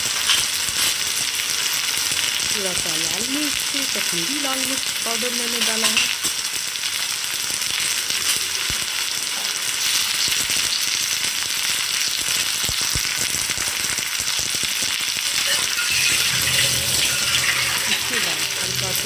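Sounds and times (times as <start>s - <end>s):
vegetables sizzling in a hot pan: 0.0s - 19.0s.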